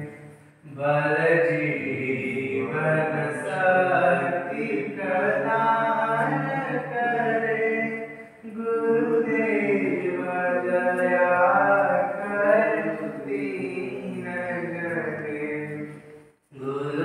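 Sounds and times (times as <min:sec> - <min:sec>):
devotional chant singing: 0:00.0 - 0:17.0.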